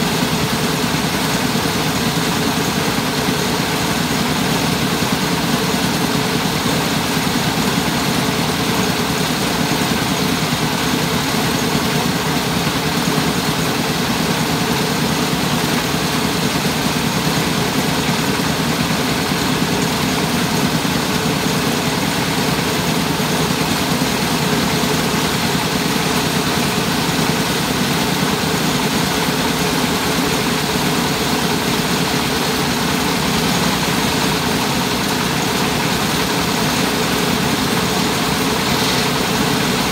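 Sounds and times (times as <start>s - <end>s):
rice-milling machine droning: 0.0s - 39.9s.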